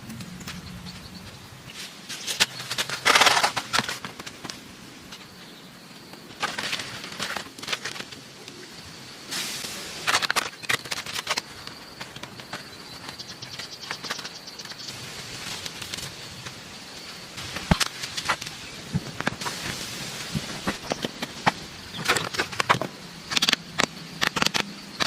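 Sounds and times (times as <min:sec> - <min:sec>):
crackling and rustling: 0:00.0 - 0:25.0
faint high insect trill: 0:04.7 - 0:25.0.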